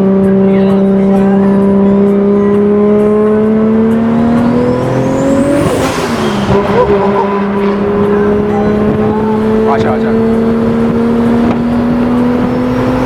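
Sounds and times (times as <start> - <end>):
turbocharged car engine: 0.0 - 13.0.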